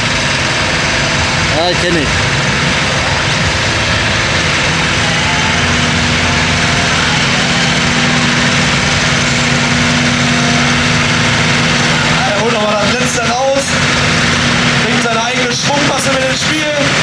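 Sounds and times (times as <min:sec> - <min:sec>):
tractor engine at high revs: 0:00.0 - 0:17.0.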